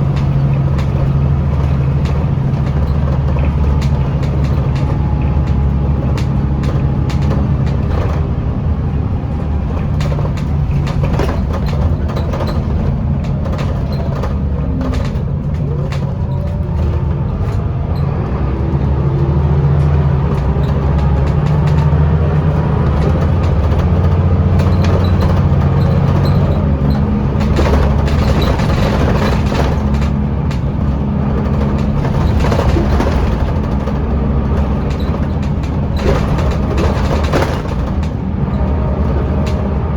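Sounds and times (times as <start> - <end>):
bodywork rattles: 0.0 - 39.9
bus engine droning: 0.0 - 39.9.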